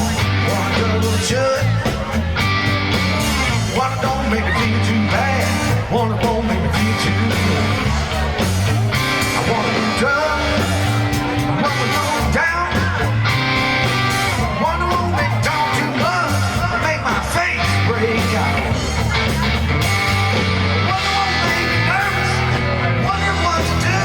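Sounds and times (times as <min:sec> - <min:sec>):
country-rock band playing: 0:00.0 - 0:24.0
electric guitar: 0:00.0 - 0:24.0
steady bass line: 0:00.0 - 0:24.0.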